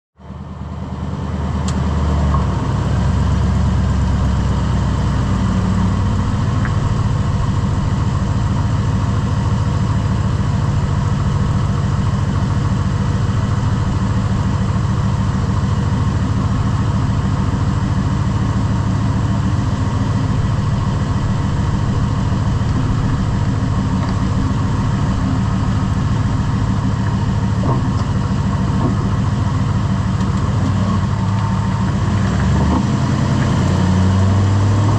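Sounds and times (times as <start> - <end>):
truck engine running: 0.2 - 34.9.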